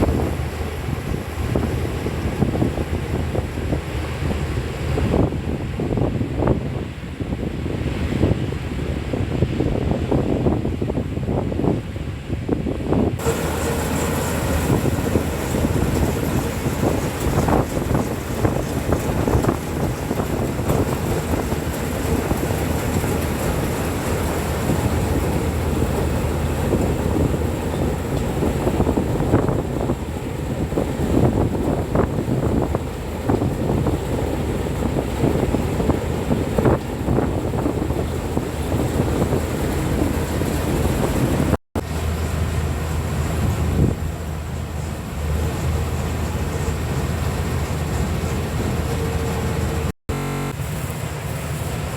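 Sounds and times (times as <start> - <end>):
combine harvester engine drone: 0.0 - 8.4, 12.6 - 51.9
wind buffeting microphone: 0.0 - 51.9.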